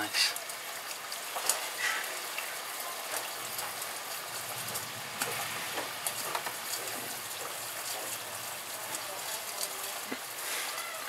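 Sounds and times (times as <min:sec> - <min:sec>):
raindrop clicks: 0:00.0 - 0:11.0
steady rain hiss: 0:00.0 - 0:11.0.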